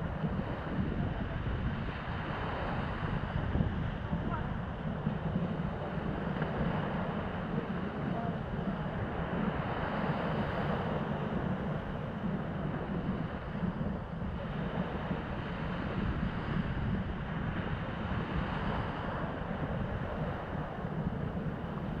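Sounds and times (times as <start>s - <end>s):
sea surf washing on shore: 0.0s - 22.0s
wind on microphone: 0.0s - 22.0s.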